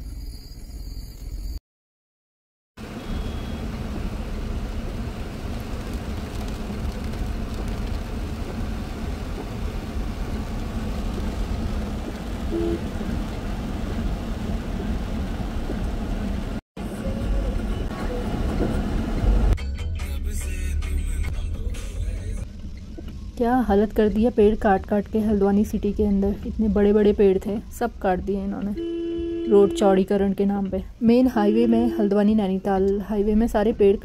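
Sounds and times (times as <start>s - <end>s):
car road and engine rumble: 2.8s - 34.0s.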